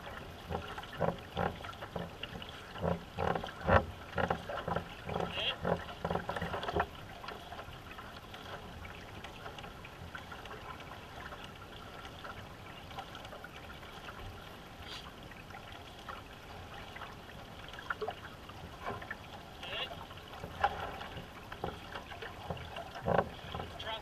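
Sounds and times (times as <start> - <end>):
paddle splashes: 0.0 - 24.0
water lapping along a hull: 0.0 - 24.0.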